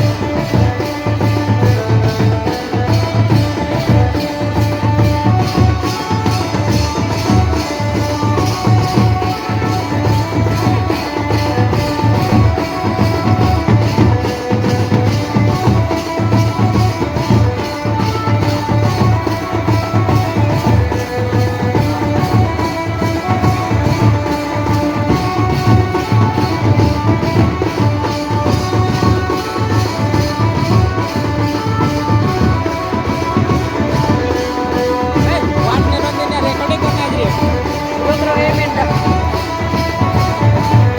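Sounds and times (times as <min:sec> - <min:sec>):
band melody: 0:00.0 - 0:40.9
drums fast beat: 0:00.0 - 0:40.9.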